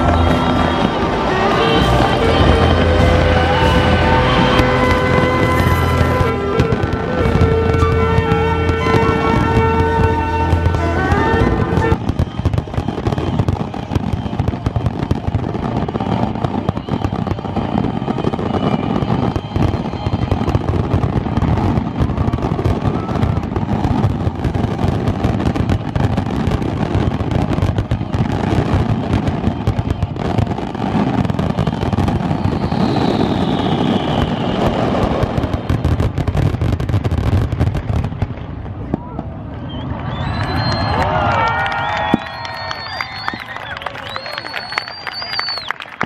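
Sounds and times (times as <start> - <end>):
falling firework whistle: 0.0 - 46.0
fireworks bursting and crackling: 0.0 - 46.0.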